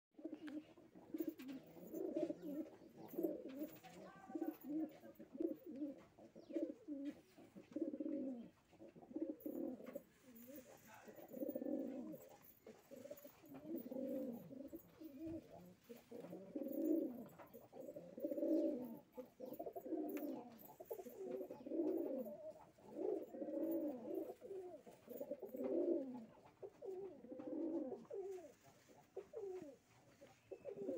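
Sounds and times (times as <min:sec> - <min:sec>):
pigeons cooing: 0:00.2 - 0:30.9.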